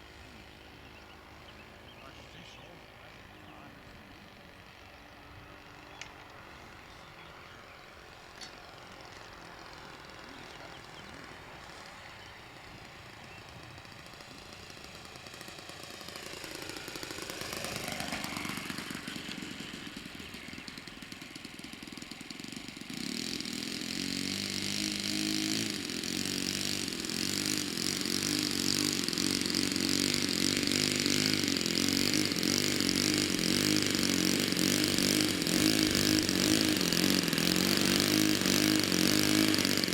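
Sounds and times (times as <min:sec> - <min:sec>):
model aeroplane engine in flight: 0:00.0 - 0:39.9.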